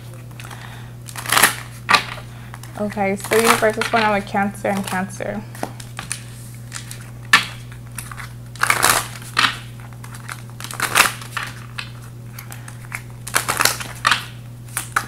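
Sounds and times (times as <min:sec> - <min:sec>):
cards being shuffled: 0:00.0 - 0:15.0.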